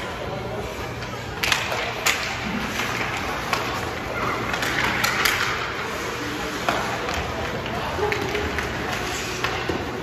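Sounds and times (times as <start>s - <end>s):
hockey sticks clacking: 0.0s - 10.0s
spectators' voices: 0.0s - 10.0s
skates on ice: 0.5s - 10.0s.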